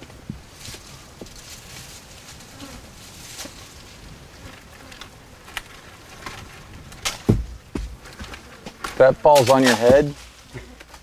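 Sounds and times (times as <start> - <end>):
palm fronds rustling: 0.0 - 11.0
steady faint hiss: 0.0 - 11.0.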